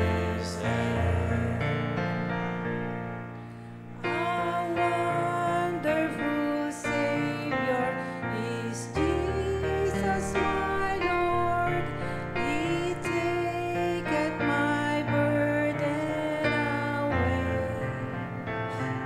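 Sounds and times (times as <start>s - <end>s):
woman and man singing hymn: 0.0s - 2.3s, 3.9s - 19.0s.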